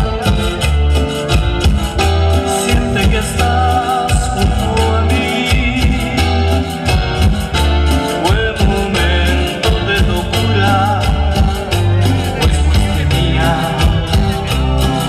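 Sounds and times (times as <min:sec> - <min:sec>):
latin dance music: 0:00.0 - 0:15.0
pulsing bass: 0:00.0 - 0:15.0.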